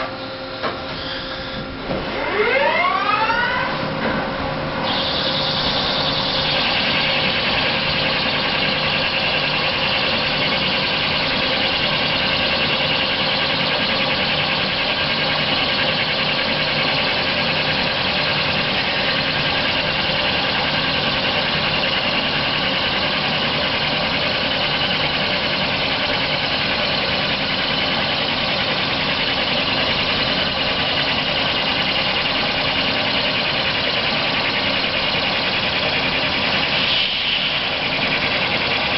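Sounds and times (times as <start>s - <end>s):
high whine of boring bar: 0.0s - 38.9s
lathe machine hum: 0.0s - 38.9s.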